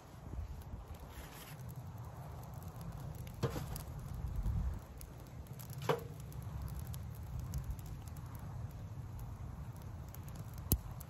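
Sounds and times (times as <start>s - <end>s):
fire low rumble: 0.0s - 11.0s
wood fire crackling pops: 0.0s - 11.0s.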